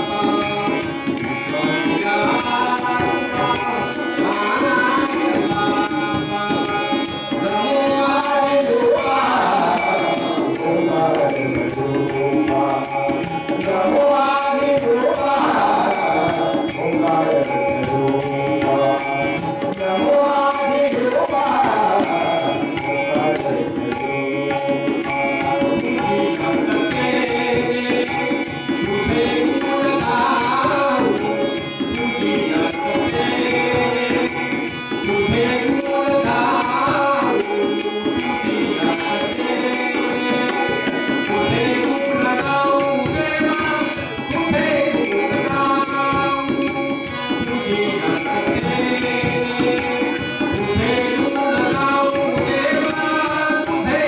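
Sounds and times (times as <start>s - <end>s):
hand cymbals striking a beat: 0.0s - 54.0s
harmonium: 0.0s - 54.0s
man singing devotional melody: 0.0s - 54.0s.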